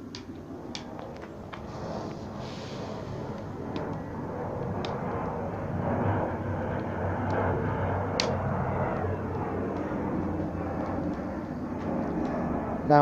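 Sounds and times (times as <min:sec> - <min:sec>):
burning wood popping: 0:00.0 - 0:12.8
wood fire rushing: 0:00.0 - 0:12.9.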